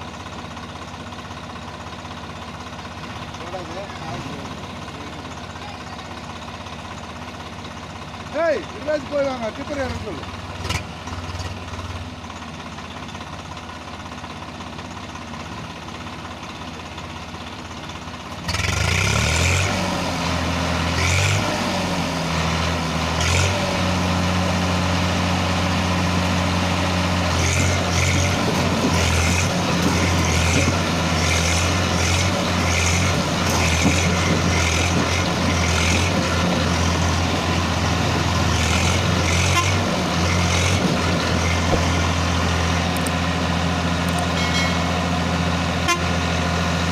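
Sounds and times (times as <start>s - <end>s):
heavy diesel engine running: 0.0s - 46.9s.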